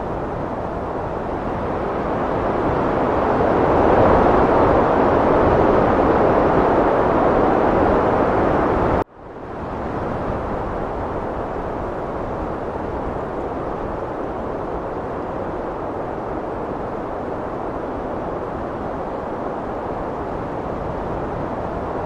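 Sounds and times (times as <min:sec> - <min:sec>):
heavy wind blowing: 0:00.0 - 0:22.0.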